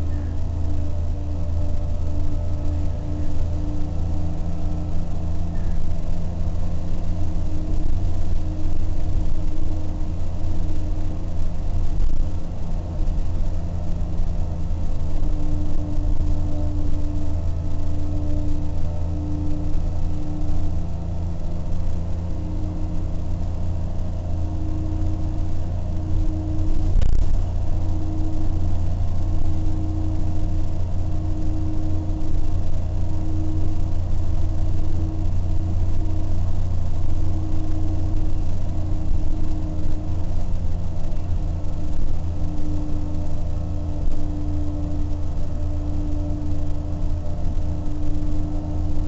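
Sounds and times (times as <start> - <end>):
diesel bus engine droning: 0.0 - 49.0
engine whine: 0.0 - 49.0
road noise: 0.0 - 49.0.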